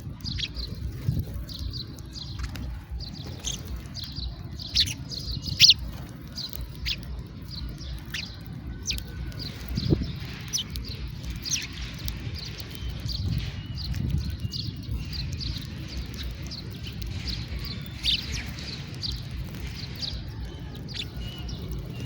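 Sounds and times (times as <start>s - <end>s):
low background rumble: 0.0s - 22.0s
sparrows chirping: 0.0s - 22.0s.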